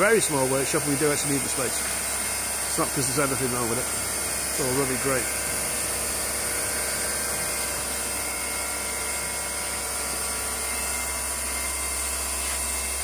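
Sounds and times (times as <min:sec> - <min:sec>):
cnc machine spindle whine: 0:00.0 - 0:13.0.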